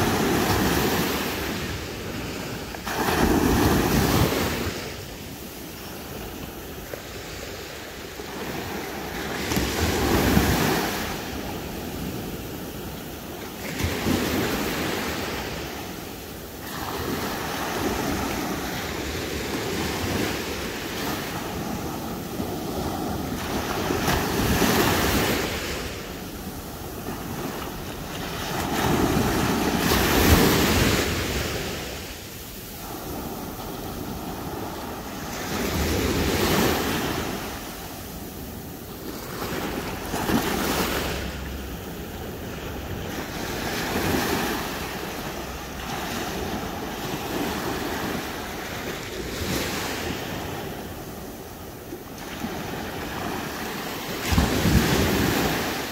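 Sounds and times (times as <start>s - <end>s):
waves washing up a beach: 0.0s - 55.9s.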